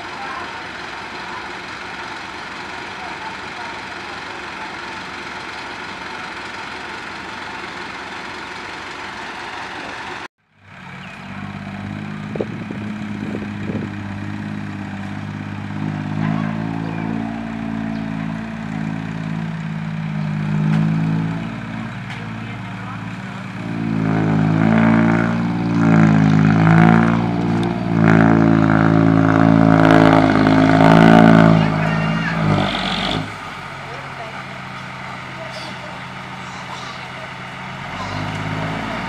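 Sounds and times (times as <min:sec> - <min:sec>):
diesel truck engine revving: 0:00.0 - 0:39.0.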